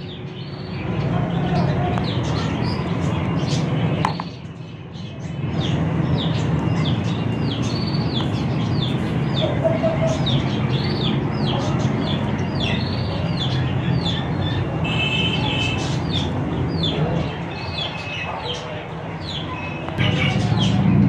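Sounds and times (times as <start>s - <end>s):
caged birds chirping: 0.0s - 21.0s.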